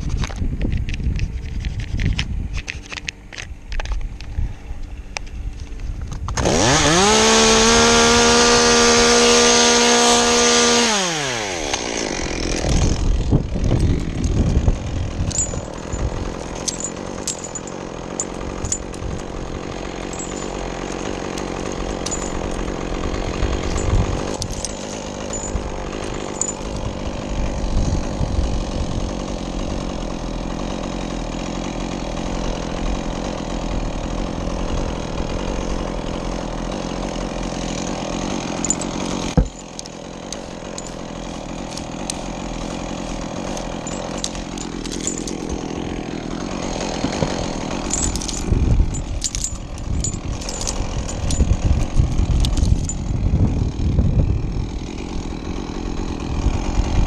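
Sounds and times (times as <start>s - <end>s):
chainsaw revving and idling: 5.1s - 57.0s.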